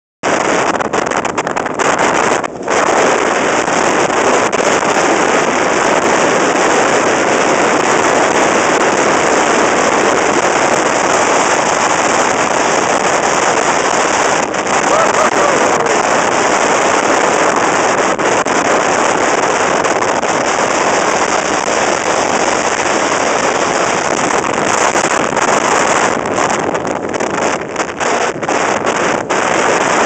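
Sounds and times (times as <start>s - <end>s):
wind buffeting microphone: 0.2s - 30.0s.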